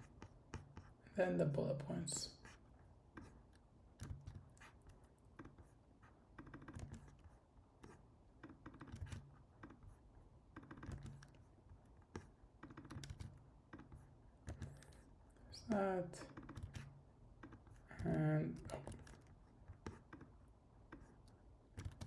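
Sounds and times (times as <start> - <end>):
faint keyboard typing: 0.0 - 22.0.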